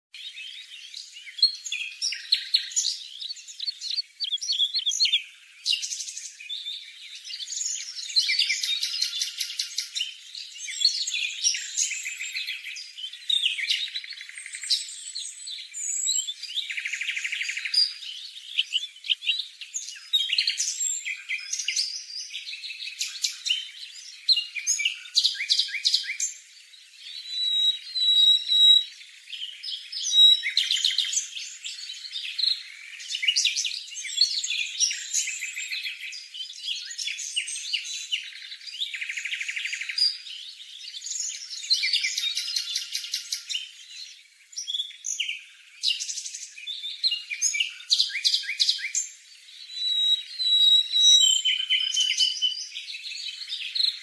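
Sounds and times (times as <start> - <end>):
small birds chirping and trilling: 0.1 - 54.0.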